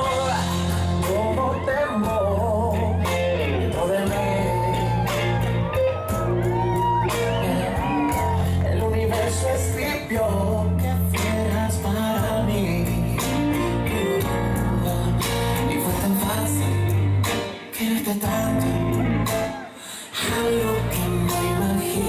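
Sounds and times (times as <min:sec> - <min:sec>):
dance song over sound system: 0:00.0 - 0:22.0.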